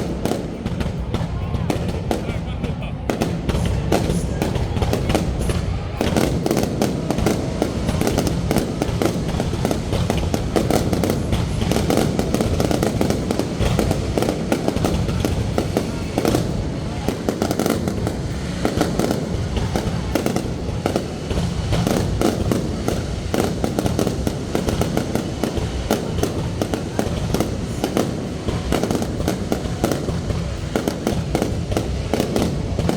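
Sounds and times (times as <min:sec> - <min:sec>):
fireworks bangs and crackling pops: 0:00.0 - 0:32.9.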